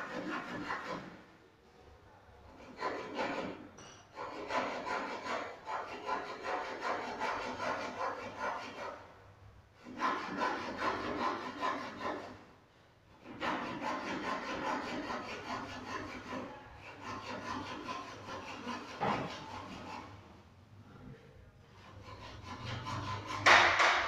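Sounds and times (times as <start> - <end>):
saw cutting through wood: 0.0 - 1.1, 2.6 - 9.0, 9.8 - 12.4, 13.2 - 20.2, 21.8 - 24.0.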